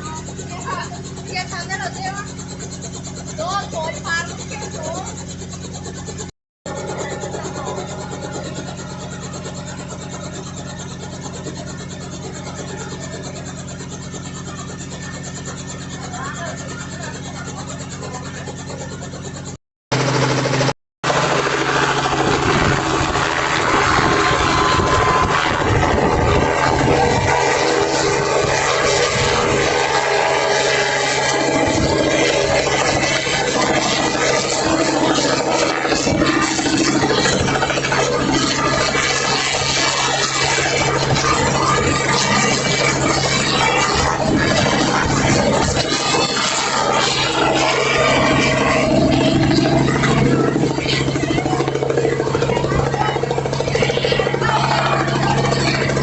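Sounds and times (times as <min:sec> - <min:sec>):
model helicopter running: 0:00.0 - 0:56.0.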